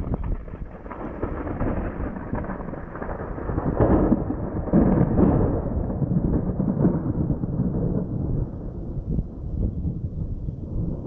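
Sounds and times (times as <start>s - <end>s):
rolling thunder: 0.0s - 11.0s.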